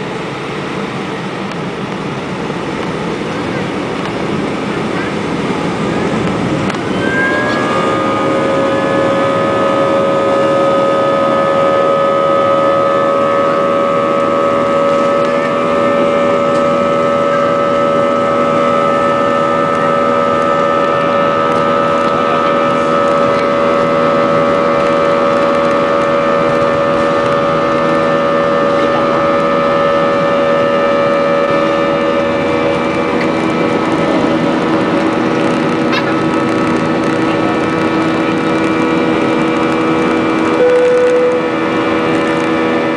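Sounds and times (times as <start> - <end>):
jet engine roar: 0.0 - 42.9
two-tone fan whine: 0.0 - 42.9.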